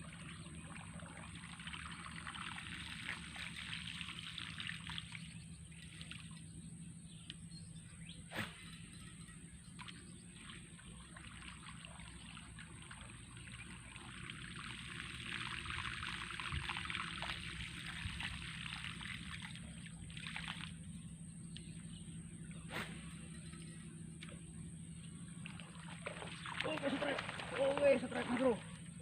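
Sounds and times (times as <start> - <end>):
water trickling and splashing: 0.0 - 7.4, 8.3 - 21.1, 22.7 - 29.0.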